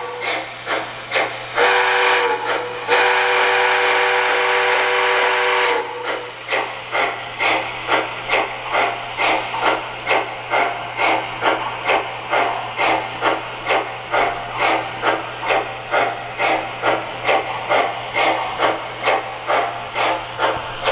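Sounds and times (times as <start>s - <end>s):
steam exhaust chuffs from speaker: 0.0s - 20.9s.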